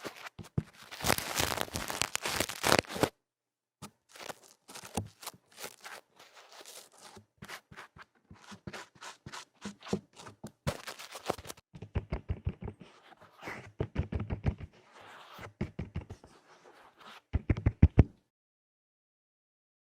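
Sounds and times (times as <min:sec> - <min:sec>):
scratching on microphone: 0:00.0 - 0:03.1, 0:04.1 - 0:11.6, 0:12.2 - 0:18.0.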